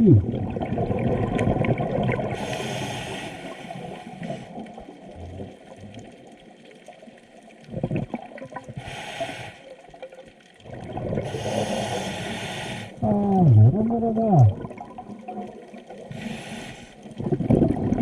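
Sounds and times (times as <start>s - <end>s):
exhaled bubbles gurgling: 0.0s - 9.1s, 9.8s - 18.0s.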